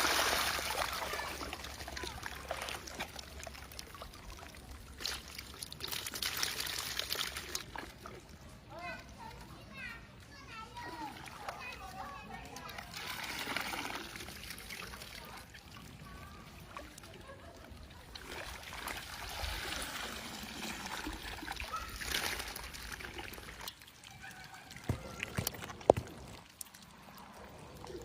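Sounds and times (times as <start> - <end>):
water trickling and splashing: 0.0 - 28.0.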